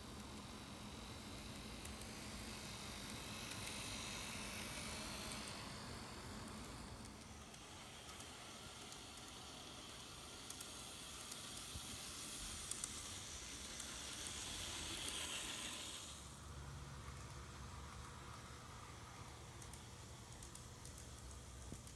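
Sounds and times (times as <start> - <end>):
model train whirring on track: 0.0 - 21.9.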